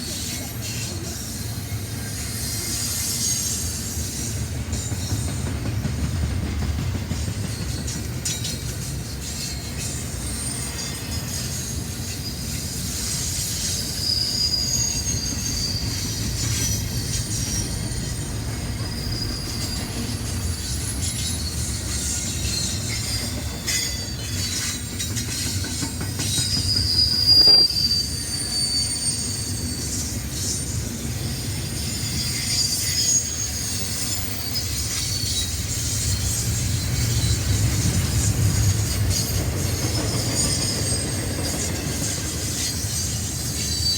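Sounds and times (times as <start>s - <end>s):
train rumbling: 0.0s - 43.9s
train wheels squealing on rails: 0.0s - 43.9s.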